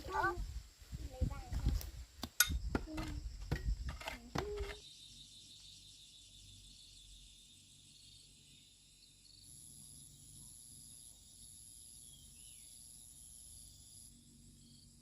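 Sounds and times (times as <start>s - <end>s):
high steady insect buzz: 0.0s - 15.0s
insects chirring: 0.0s - 15.0s.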